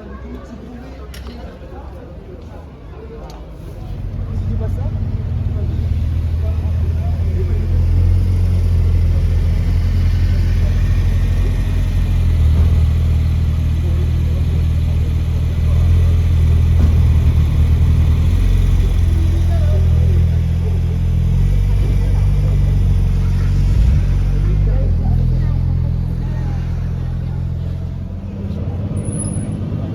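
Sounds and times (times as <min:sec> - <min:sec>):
car engine idling: 0:03.6 - 0:29.9.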